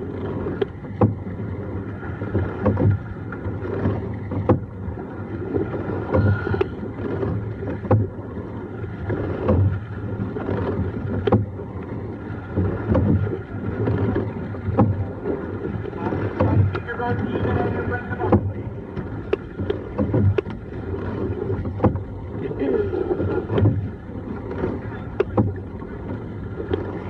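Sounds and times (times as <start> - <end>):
oars clacking in oarlocks: 0.0 - 27.0
water rushing along hull: 0.0 - 27.0.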